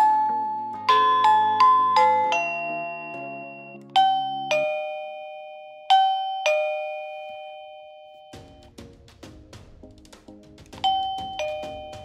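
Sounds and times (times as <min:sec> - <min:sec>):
doorbell ding-dong chime: 0:00.0 - 0:08.6, 0:10.8 - 0:12.0
doorbell bell melody: 0:00.0 - 0:08.7, 0:10.8 - 0:12.0
soft tune of repeated notes: 0:00.0 - 0:12.0.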